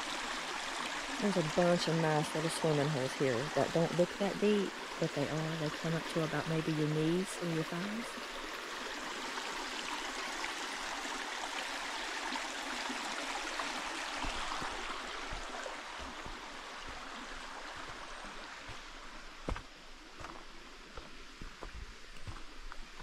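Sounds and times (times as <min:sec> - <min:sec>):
creek water over rocks: 0:00.0 - 0:23.0.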